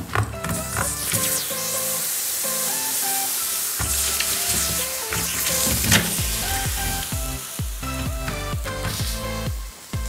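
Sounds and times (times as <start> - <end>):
upbeat electronic music: 0.0 - 10.0
firecrackers sizzling on hot knife: 0.6 - 10.0.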